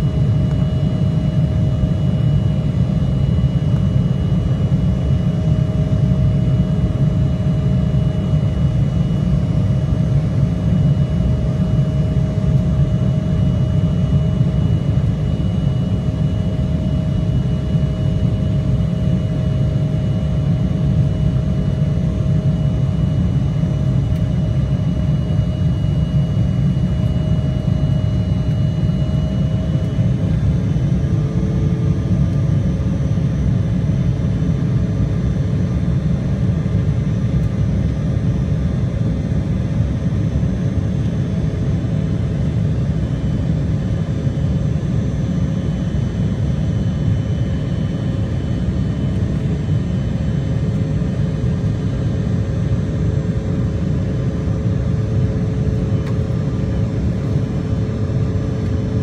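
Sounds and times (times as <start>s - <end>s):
jet engine cabin rumble: 0.0s - 59.0s
thin steady whine: 0.0s - 59.0s.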